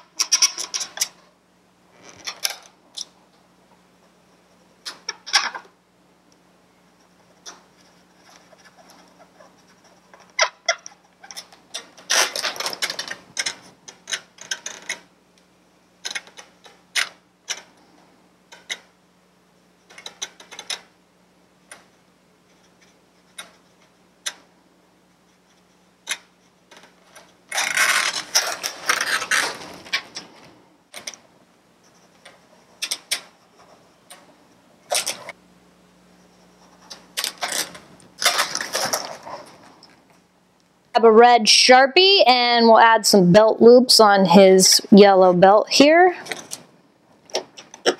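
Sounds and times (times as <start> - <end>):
faint low hum: 0.0 - 47.9.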